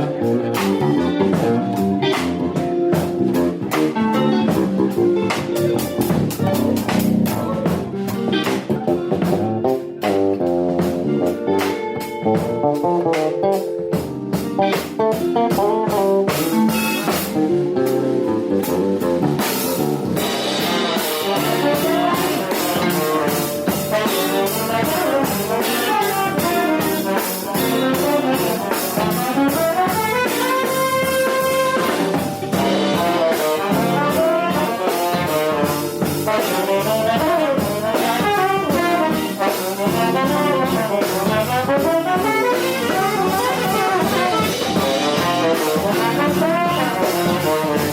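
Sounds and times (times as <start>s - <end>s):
bass: 0.0s - 47.9s
drum kit with cymbal: 0.0s - 47.9s
piano: 0.0s - 47.9s
trombone melody: 0.0s - 47.9s.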